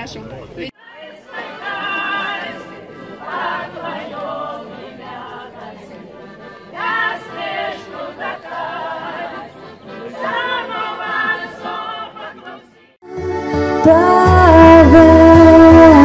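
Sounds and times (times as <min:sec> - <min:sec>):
women singing in chorus: 0:00.8 - 0:05.9, 0:06.7 - 0:12.7, 0:13.8 - 0:16.0.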